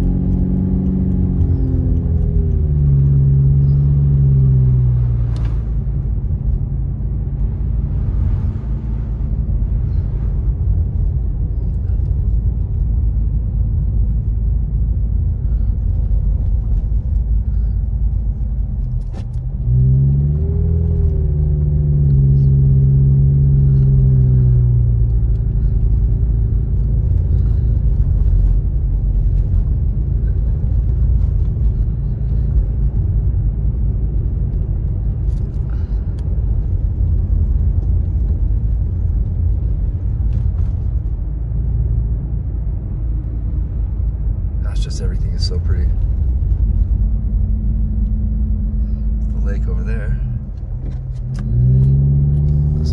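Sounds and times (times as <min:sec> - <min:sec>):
car engine: 0:00.0 - 0:52.9
road rumble inside car: 0:00.0 - 0:52.9.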